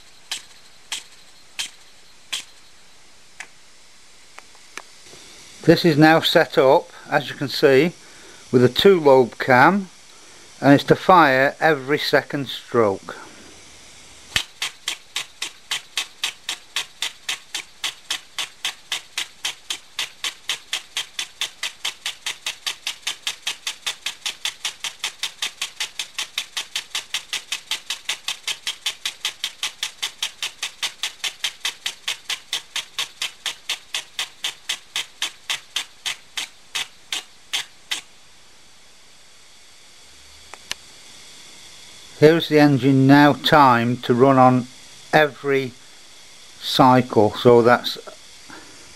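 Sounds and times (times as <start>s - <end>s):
faint steady air hiss: 0.0s - 48.9s
air engine exhaust puffs: 4.3s - 38.3s, 40.0s - 48.9s.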